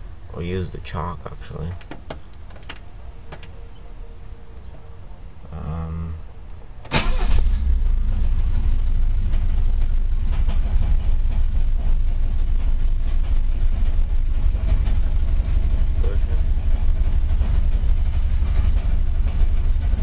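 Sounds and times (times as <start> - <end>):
car engine starting and running: 0.0 - 20.0.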